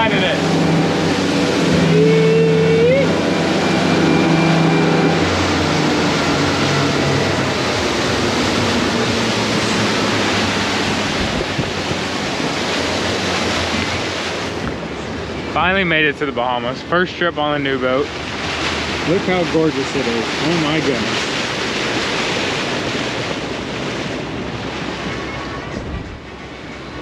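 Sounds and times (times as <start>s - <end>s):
wind and spray rushing: 0.0s - 16.0s, 18.1s - 27.0s
motorboat engine hum: 0.0s - 27.0s.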